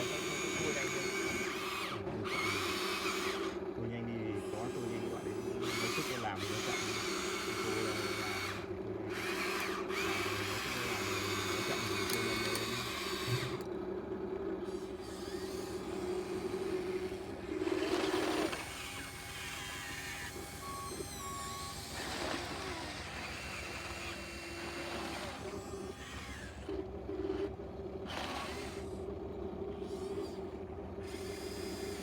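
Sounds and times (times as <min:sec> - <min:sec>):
toy excavator motors whining: 0:00.0 - 0:13.7, 0:14.6 - 0:29.0, 0:29.8 - 0:32.0.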